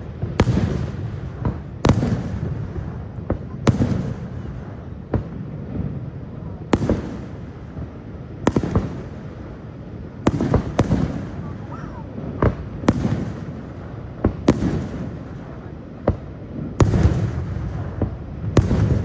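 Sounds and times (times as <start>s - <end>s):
fireworks bangs: 0.0s - 19.0s
rolling echo rumble: 0.0s - 19.0s.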